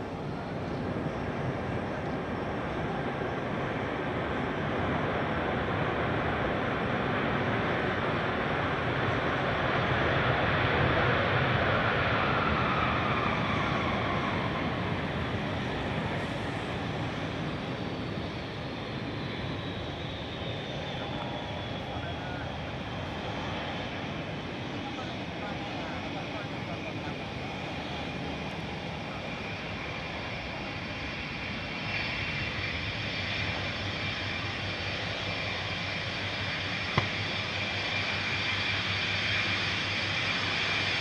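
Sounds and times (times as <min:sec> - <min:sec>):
jet engines rumbling: 0:00.0 - 0:41.0.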